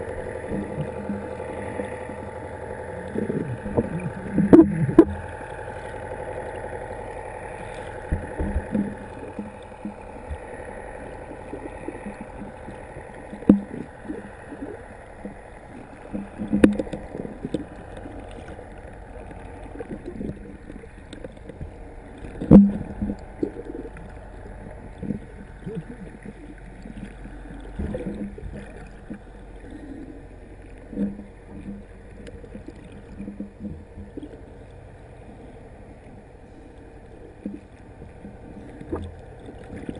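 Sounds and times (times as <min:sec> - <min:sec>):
underwater hiss and rumble: 0:00.0 - 0:39.9
water gurgling: 0:00.0 - 0:39.9.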